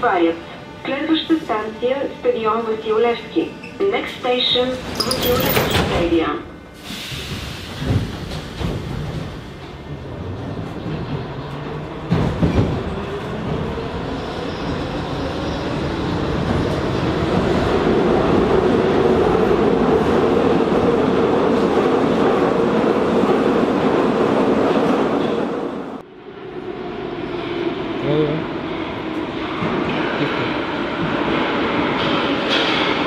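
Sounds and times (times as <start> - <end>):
metro train running noise: 0.0 - 33.0.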